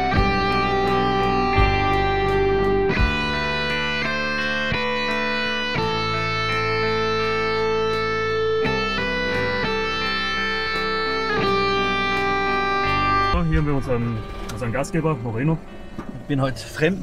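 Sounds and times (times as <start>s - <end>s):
guitar playing sustained chords: 0.0s - 17.0s.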